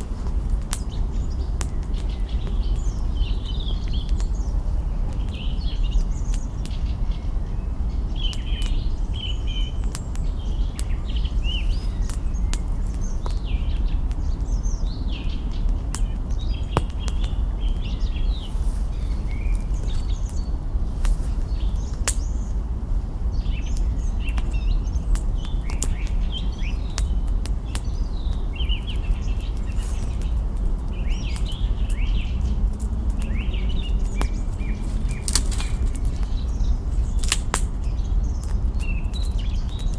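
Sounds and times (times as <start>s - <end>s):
campfire twigs crackling: 0.0s - 39.9s
small birds chirping: 0.0s - 39.9s
steady low rumble: 0.0s - 39.9s.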